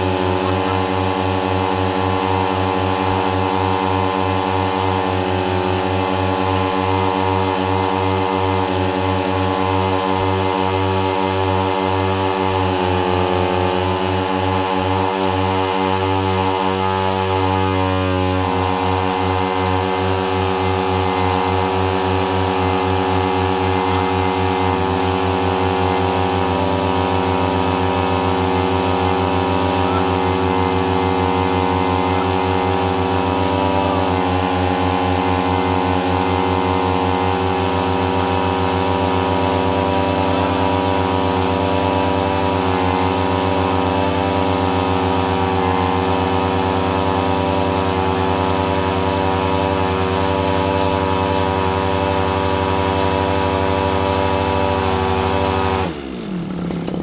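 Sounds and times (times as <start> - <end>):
two-stroke engines at full throttle: 0.0 - 57.0.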